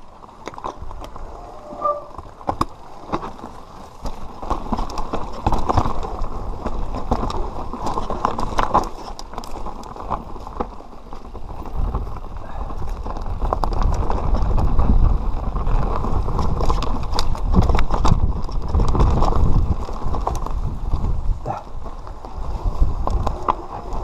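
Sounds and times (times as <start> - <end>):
mountain bike rattling: 0.0 - 24.0
wind rumble on microphone: 0.0 - 24.0.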